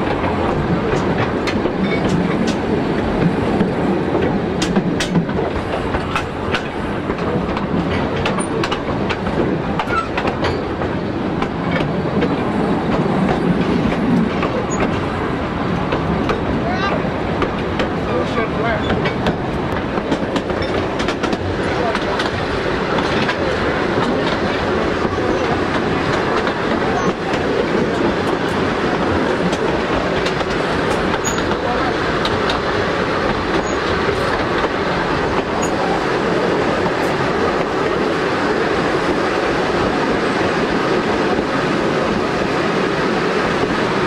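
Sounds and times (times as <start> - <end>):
train carriage rumble and rail clatter: 0.0 - 44.0.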